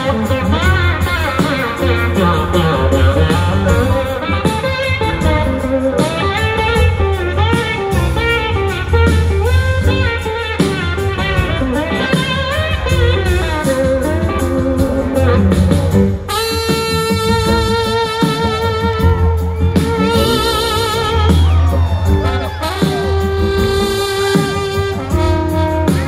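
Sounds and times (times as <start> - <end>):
electric guitar lead with bending notes: 0.0 - 26.0
live rock band playing: 0.0 - 26.0.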